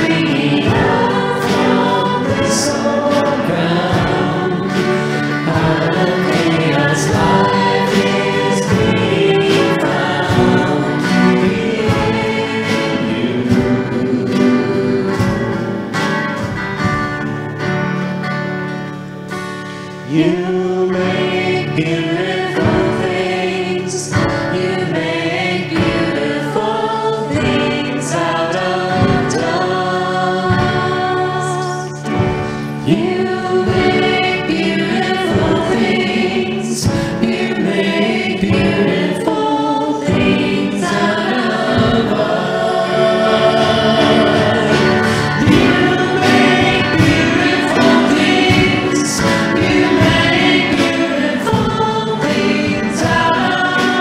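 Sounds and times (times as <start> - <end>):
group singing worship song: 0.0 - 54.0
instrumental accompaniment with beat: 0.0 - 54.0.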